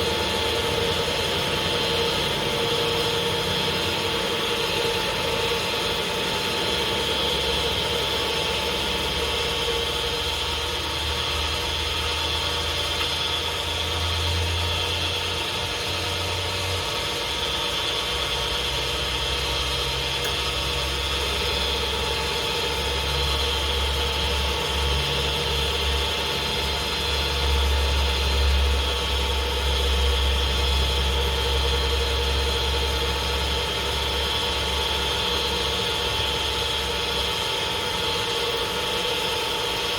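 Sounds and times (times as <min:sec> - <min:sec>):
lathe motor hum: 0:00.0 - 0:39.9
steady high-pitched whine: 0:00.0 - 0:39.9.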